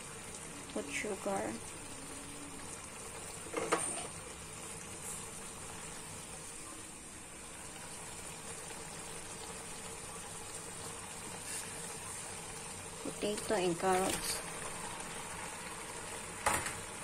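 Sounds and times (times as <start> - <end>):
curry bubbling in a wok: 0.0 - 17.0.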